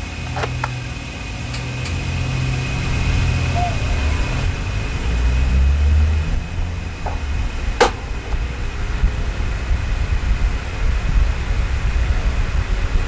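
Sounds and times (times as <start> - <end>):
fan airflow buffeting microphone: 0.0 - 13.0.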